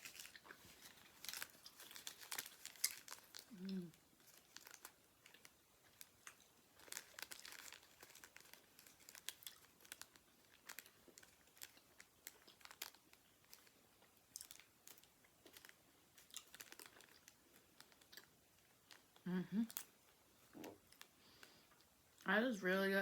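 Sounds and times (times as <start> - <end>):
candy wrapper crinkling: 0.0 - 22.2
chewing sounds: 0.0 - 22.2.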